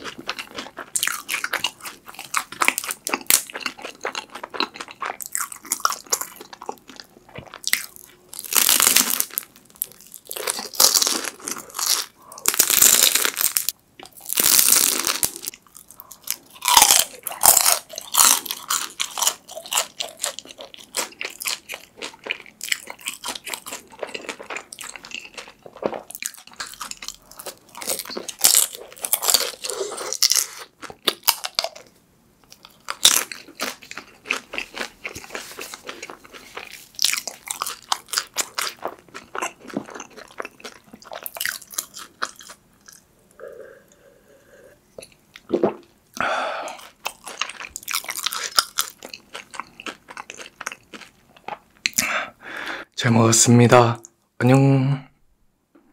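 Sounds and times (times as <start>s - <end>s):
crunching and chewing food: 0.0s - 44.2s, 44.9s - 52.1s.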